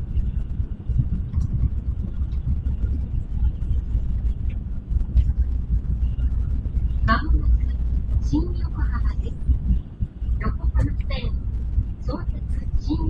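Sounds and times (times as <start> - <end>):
faint ticks and rattles: 0.0 - 13.0
train cabin deep rumble: 0.0 - 13.0.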